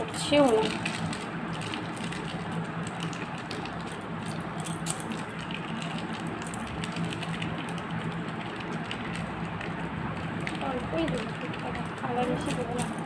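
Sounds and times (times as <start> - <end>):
paper sachet ticks and rustles: 0.0 - 13.0.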